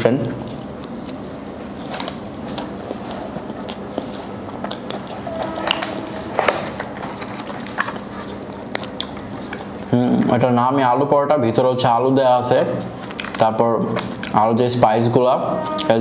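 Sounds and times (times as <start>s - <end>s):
soft eating noises: 0.0s - 16.0s.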